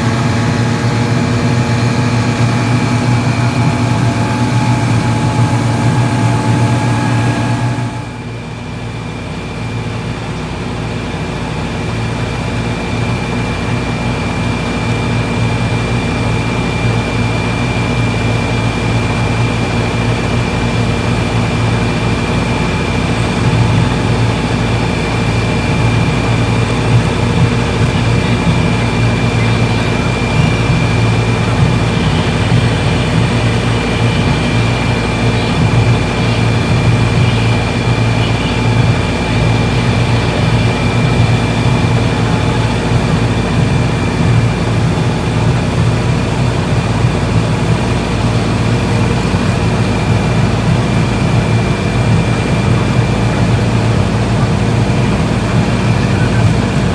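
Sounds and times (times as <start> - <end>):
high whine: 0.0 - 56.9
pump engines running: 0.0 - 56.9.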